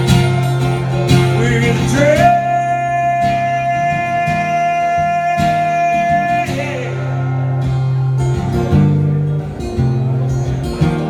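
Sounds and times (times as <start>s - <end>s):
live country band with acoustic guitar: 0.0s - 11.0s.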